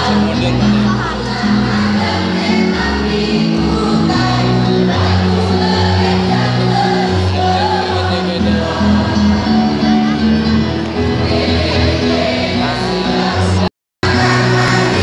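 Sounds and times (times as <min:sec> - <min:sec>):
amplified backing music: 0:00.0 - 0:15.0
choir singing: 0:00.0 - 0:15.0.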